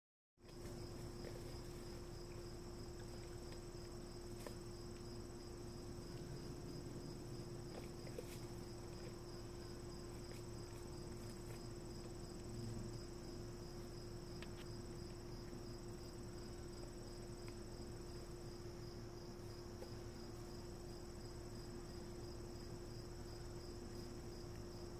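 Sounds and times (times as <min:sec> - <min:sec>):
crickets trilling: 0:00.4 - 0:24.9
steady low hum: 0:00.4 - 0:24.9.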